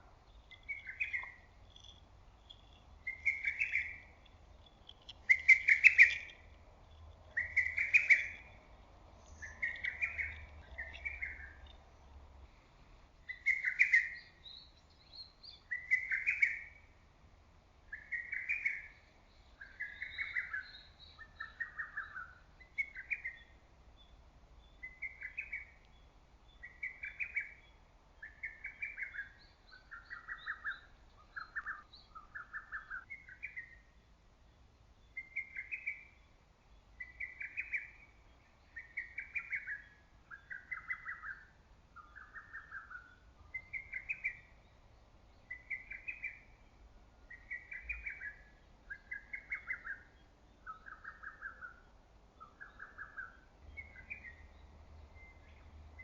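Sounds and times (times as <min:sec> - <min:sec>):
faint small bird chirps: 0:00.0 - 0:17.0, 0:17.9 - 0:56.0.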